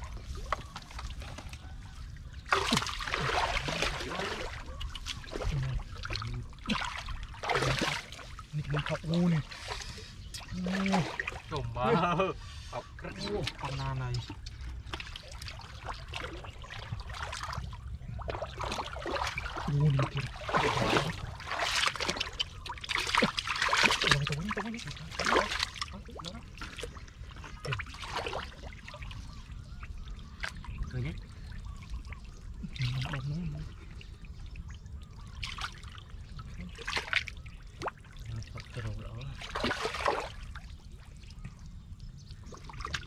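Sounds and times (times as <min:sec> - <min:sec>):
water splashing and pouring: 0:00.0 - 0:11.8, 0:13.2 - 0:29.4, 0:35.1 - 0:41.6.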